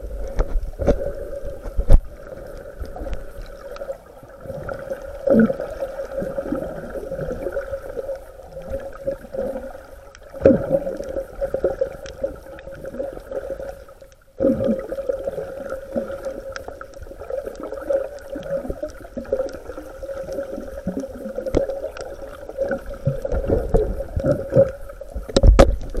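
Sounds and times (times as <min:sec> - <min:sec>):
water gurgling and bubbling: 0:00.0 - 0:26.0.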